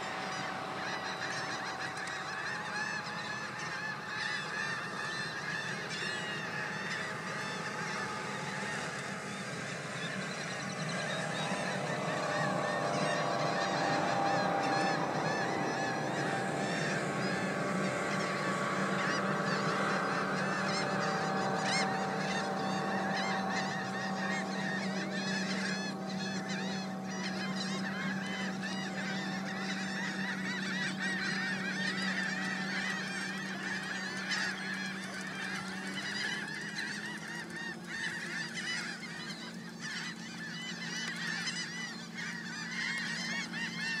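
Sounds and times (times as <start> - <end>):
steady low drone: 0.0 - 5.6, 6.2 - 39.7
gulls calling: 0.0 - 44.0.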